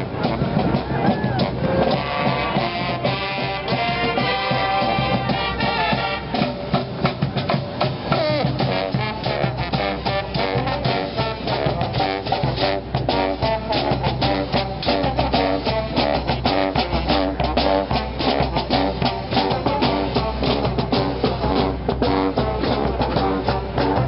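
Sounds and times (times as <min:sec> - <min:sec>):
brass band horns: 0:00.0 - 0:24.0
driving drum beat: 0:00.0 - 0:24.0.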